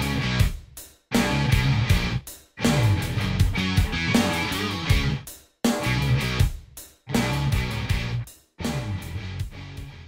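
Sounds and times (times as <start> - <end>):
intro music with guitar: 0.0 - 10.0.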